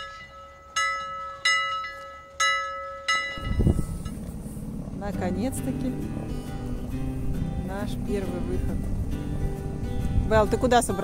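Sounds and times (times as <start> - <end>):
ship's bell ringing: 0.0 - 9.0
low outdoor rumble: 0.0 - 11.0.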